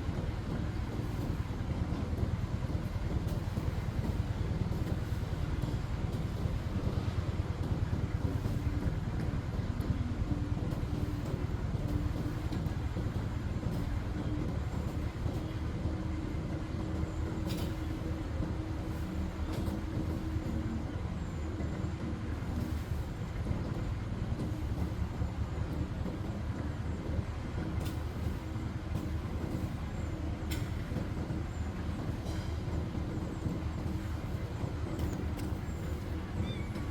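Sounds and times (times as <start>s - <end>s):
low mechanical rumble: 0.0s - 36.9s.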